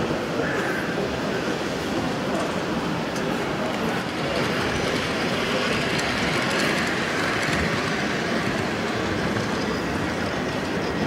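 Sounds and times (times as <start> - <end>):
exhibition hall background noise: 0.0 - 11.0
model train rolling on track: 0.0 - 11.0.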